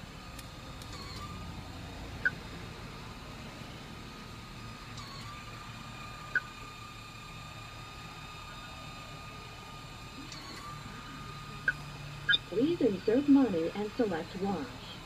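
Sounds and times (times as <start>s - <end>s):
car idling rumble: 0.0s - 15.0s.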